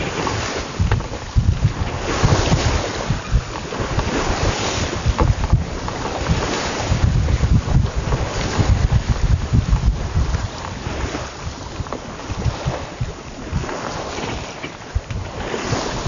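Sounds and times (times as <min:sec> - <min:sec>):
sea water and waves rushing: 0:00.0 - 0:16.0
wind buffeting microphone: 0:00.0 - 0:16.0.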